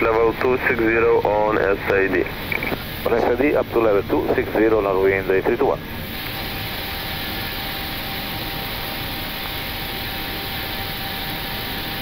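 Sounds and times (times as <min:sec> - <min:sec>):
cockpit airflow and engine noise: 0:00.0 - 0:12.0.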